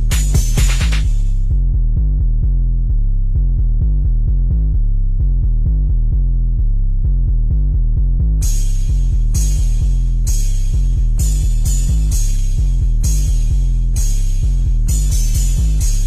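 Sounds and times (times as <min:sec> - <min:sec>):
bass-heavy music: 0:00.0 - 0:16.0.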